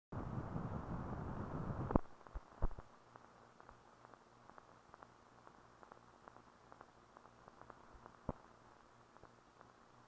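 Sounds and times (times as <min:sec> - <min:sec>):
film soundtrack hiss and hum: 0:00.1 - 0:10.0
faint clicks and crackles: 0:01.5 - 0:10.0.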